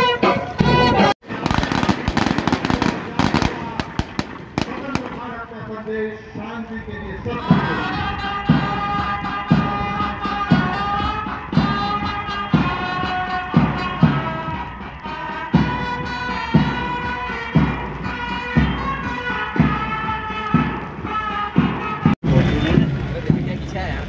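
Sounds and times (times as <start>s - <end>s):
steady drum beat: 0.0s - 5.9s, 7.2s - 24.0s
band march music: 0.0s - 24.0s.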